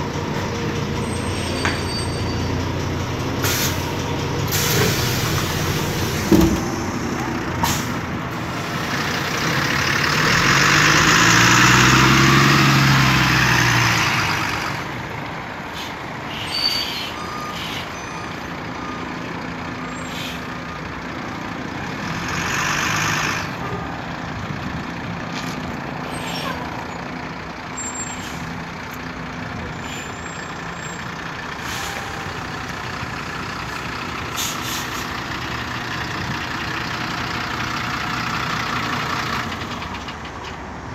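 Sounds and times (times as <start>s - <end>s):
bus engine: 0.0s - 40.9s.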